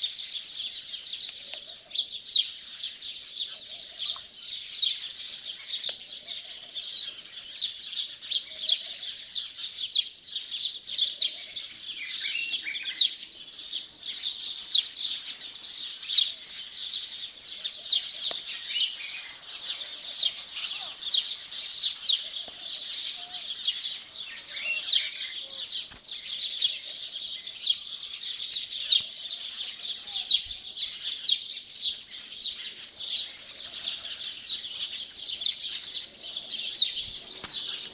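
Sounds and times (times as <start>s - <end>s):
lower bird calls: 0.0s - 37.9s
small birds chirping: 0.0s - 37.9s.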